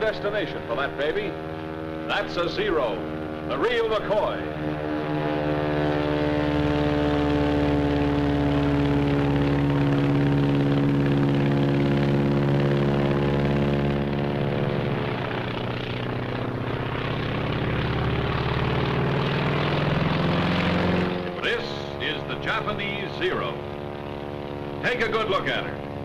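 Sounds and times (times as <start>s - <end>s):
propeller aircraft engine droning: 0.0s - 26.0s.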